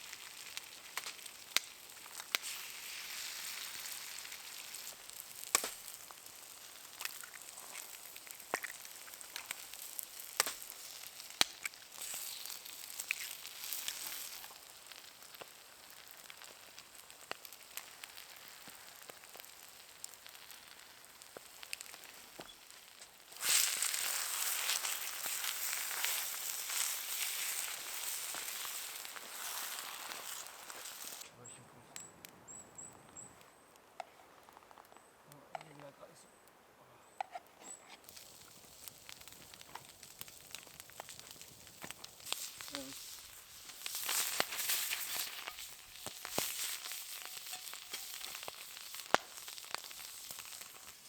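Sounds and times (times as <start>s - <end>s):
food sizzling in a pan: 0.0s - 31.2s, 38.0s - 51.0s
campfire crackles and pops: 0.0s - 51.0s.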